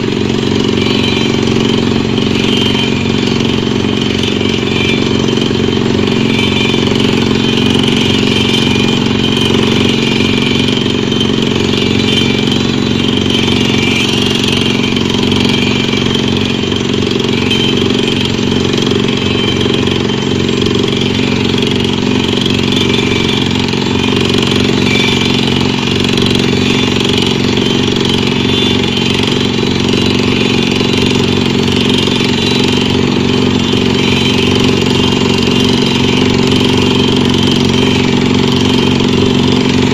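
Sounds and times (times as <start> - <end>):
drilling rig machinery running: 0.0 - 39.9.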